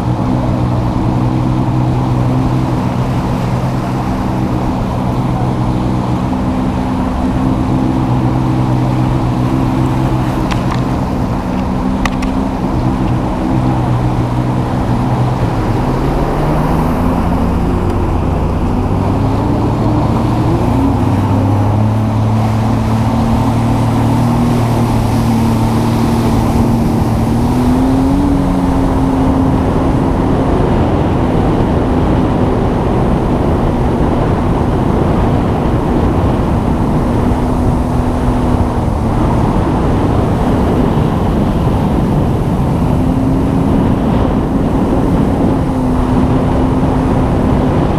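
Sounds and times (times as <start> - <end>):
loud steady rushing noise: 0.0 - 47.9.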